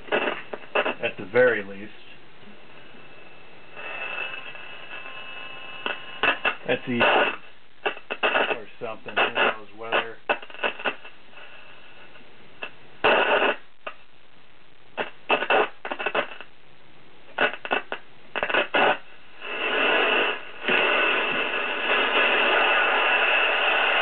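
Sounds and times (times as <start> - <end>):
radio static bursts and crackle: 0.0 - 24.0
steady static hiss: 0.0 - 24.0.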